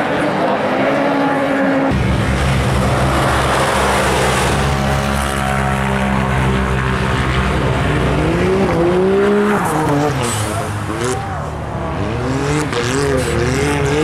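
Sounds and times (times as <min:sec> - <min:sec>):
buggy engine revving: 0:01.8 - 0:14.0.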